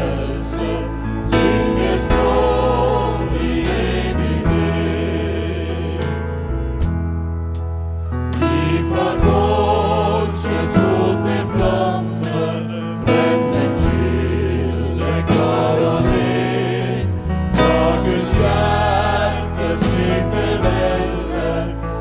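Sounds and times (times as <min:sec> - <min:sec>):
group singing a hymn: 0:00.0 - 0:06.6, 0:08.4 - 0:22.0.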